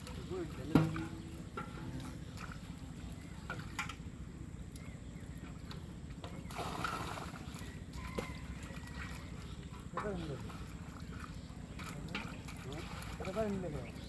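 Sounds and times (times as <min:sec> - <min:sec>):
pond water sloshing and splashing: 0:00.0 - 0:14.0.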